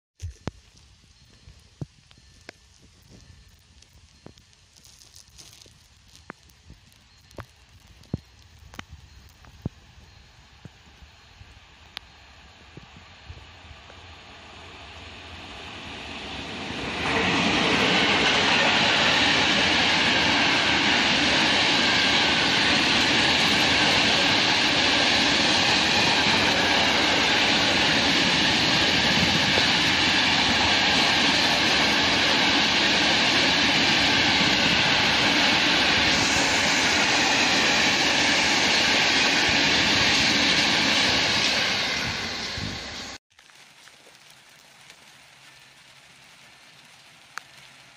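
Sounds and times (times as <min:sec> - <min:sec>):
freight train passing: 0:02.2 - 0:43.2.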